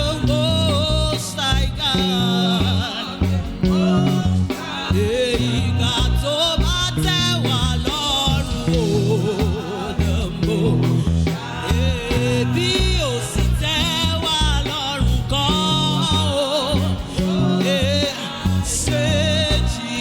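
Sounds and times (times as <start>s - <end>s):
band with pulsing bass: 0.0s - 20.0s
person singing: 0.0s - 20.0s.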